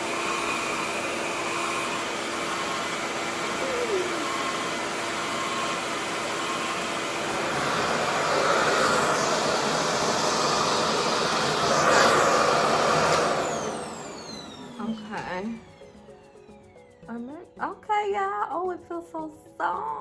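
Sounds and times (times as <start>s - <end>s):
hair dryer air rushing: 0.0s - 16.2s
motor spinning down whine: 0.0s - 16.9s.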